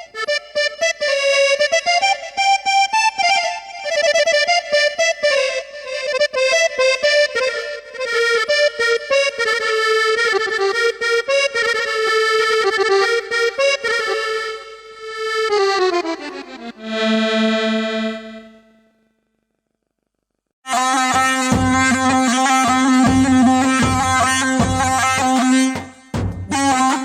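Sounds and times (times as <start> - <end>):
reedy keyboard folk melody: 0.0 - 19.0, 20.7 - 27.0.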